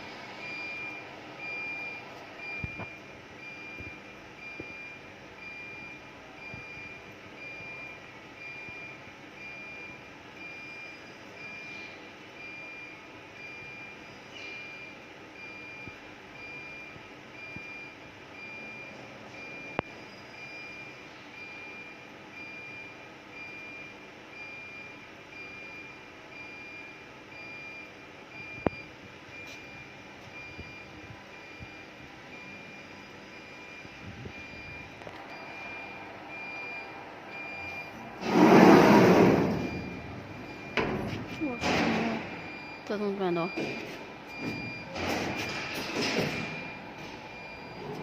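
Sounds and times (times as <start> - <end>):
low machine hum: 0.0 - 48.0
high-pitched warning beeps: 0.4 - 48.0.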